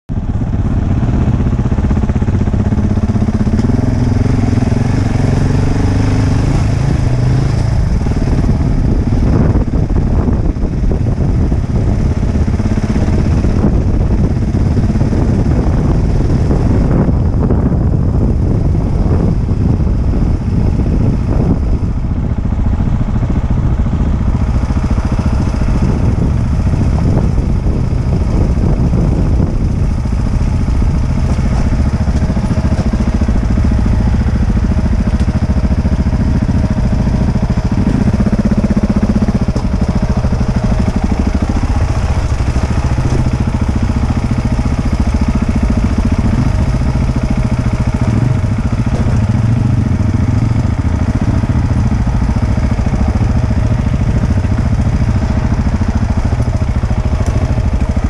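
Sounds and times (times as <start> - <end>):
motorcycle engine running: 0.1 - 58.0.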